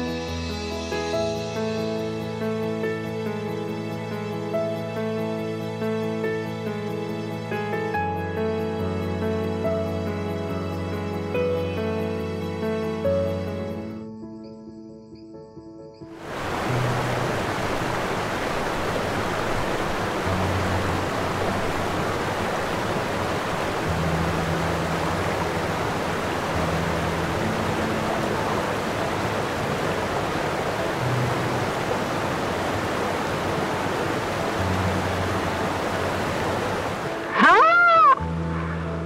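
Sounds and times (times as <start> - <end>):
rushing water: 0.0 - 11.4, 16.2 - 39.0
soft low music: 0.0 - 39.0.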